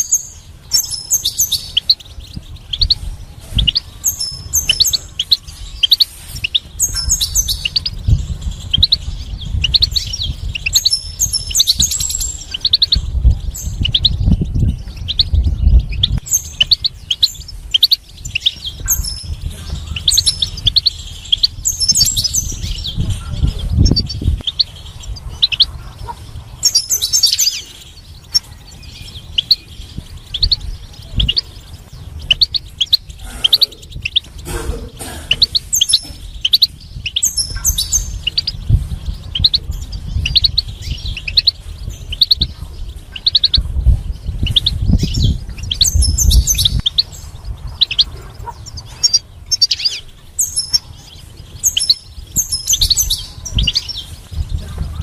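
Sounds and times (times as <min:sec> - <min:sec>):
finch twittering song: 0:00.0 - 0:55.0
low rumble: 0:00.2 - 0:55.0.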